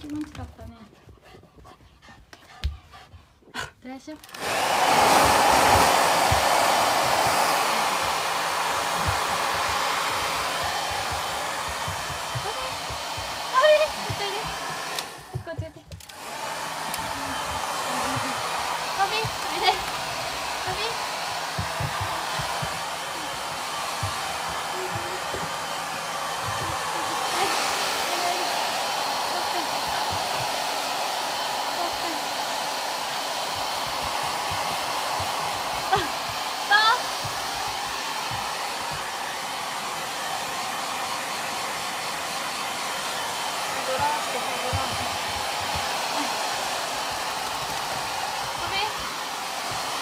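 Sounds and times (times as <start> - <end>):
hair dryer blowing: 2.6 - 50.0.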